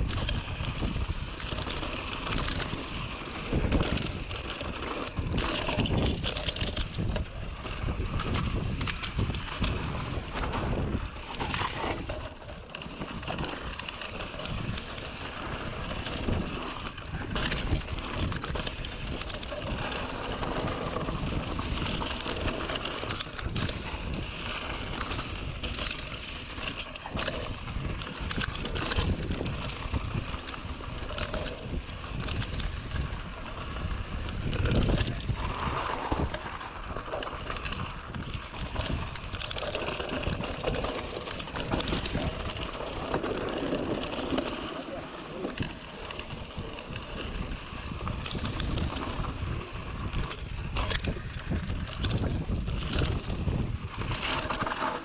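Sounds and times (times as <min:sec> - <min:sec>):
bike knocking and rattling: 0:00.0 - 0:55.0
bike tyres on dirt: 0:00.0 - 0:55.0
wind noise on microphone: 0:00.0 - 0:55.0.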